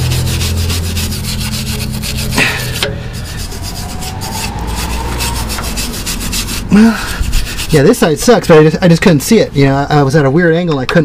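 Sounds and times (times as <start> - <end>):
wire brush scrubbing metal: 0.0 - 9.4.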